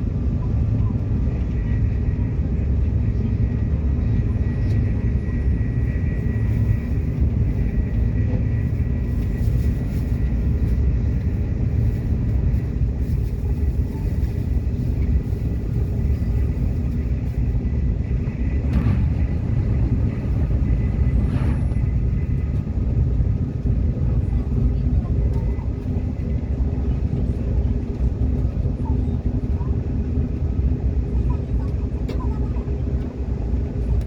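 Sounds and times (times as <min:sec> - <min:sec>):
subway train rumble: 0:00.0 - 0:34.0.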